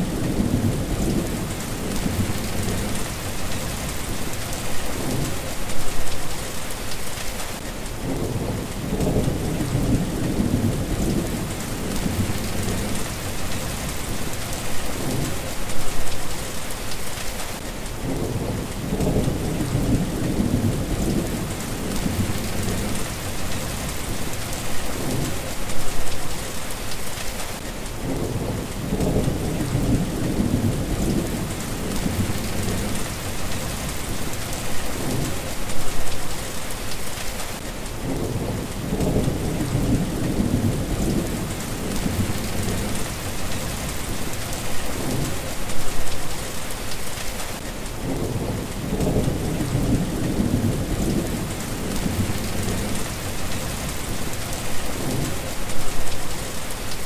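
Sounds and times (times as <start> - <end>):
low rumbles of thunder: 0.0 - 5.9, 8.0 - 15.9, 18.0 - 26.1, 28.0 - 36.1, 38.0 - 45.9, 48.0 - 55.9
steady rain falling: 0.0 - 57.0.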